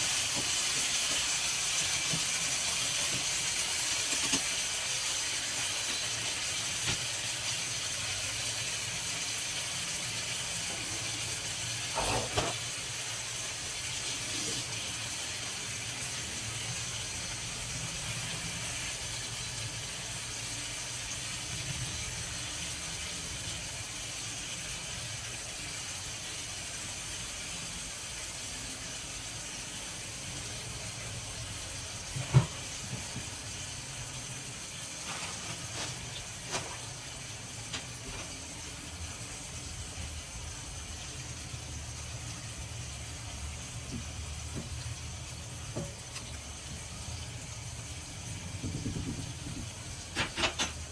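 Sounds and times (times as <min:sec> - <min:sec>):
food hissing on a stove: 0:00.0 - 0:50.9.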